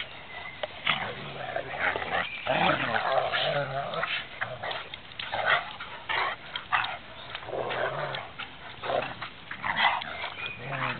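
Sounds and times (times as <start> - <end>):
dogs growling and snarling: 0.0 - 10.9.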